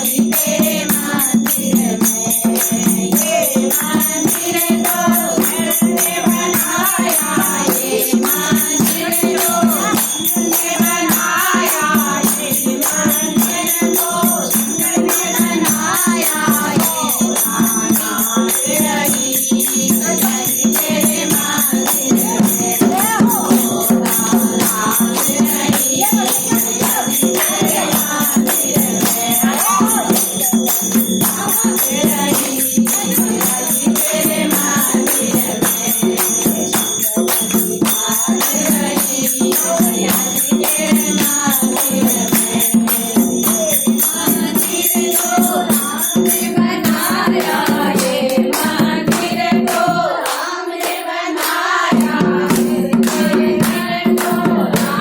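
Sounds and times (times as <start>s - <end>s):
group singing: 0.0s - 55.0s
rattling and ringing percussion: 0.0s - 55.0s.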